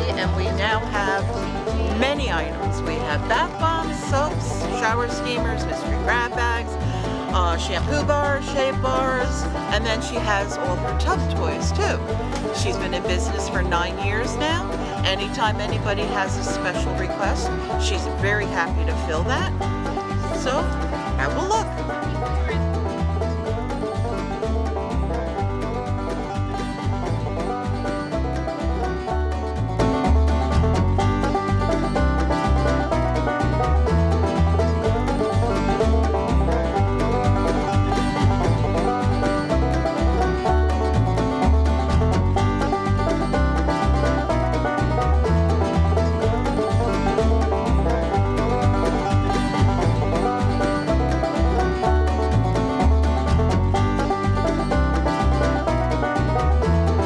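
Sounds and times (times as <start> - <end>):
music with steady bass beat: 0.0 - 57.0.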